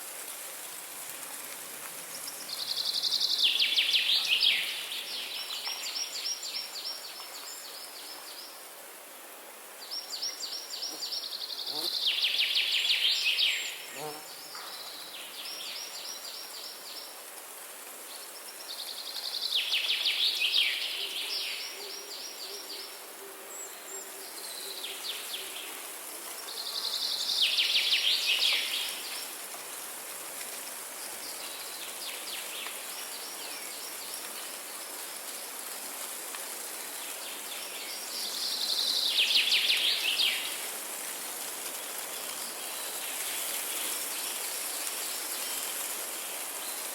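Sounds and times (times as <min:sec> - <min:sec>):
background hiss: 0:00.0 - 0:46.9.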